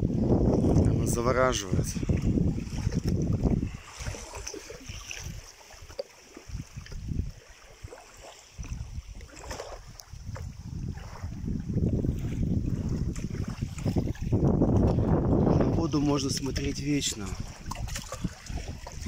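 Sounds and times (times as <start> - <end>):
wind gusting on microphone: 0.0 - 5.5, 6.4 - 19.0
rippling lake water: 0.0 - 19.0.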